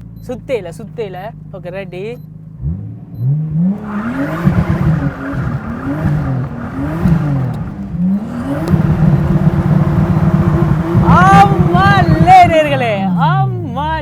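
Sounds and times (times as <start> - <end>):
car engine revving: 2.4 - 14.0.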